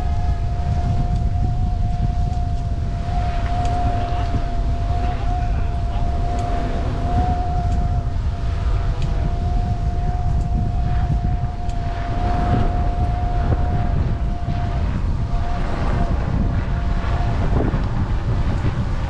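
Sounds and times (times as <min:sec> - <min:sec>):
steady high whine: 0:00.0 - 0:19.0
wind on microphone: 0:00.0 - 0:19.0.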